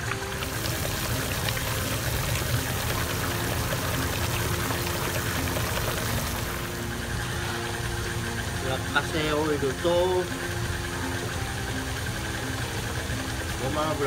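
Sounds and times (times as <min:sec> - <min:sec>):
stand mixer beating filling: 0:00.0 - 0:14.0.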